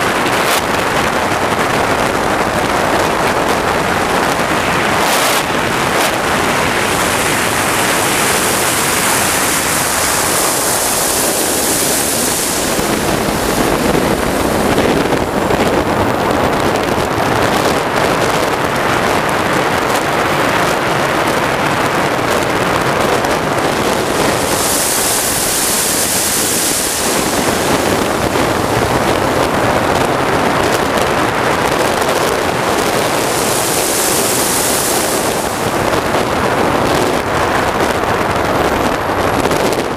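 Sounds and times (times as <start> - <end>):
jet turbine engine hiss: 0.0 - 17.0, 20.6 - 37.9
wind on microphone: 0.0 - 39.9.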